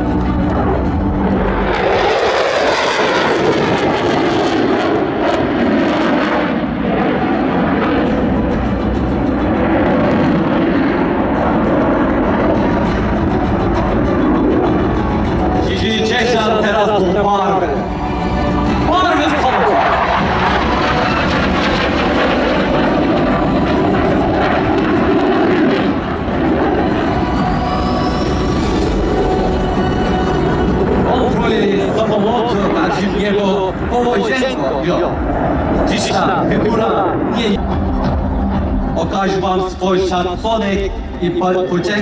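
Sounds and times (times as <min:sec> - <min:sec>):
fighter jet engine roar: 0:00.0 - 0:42.0.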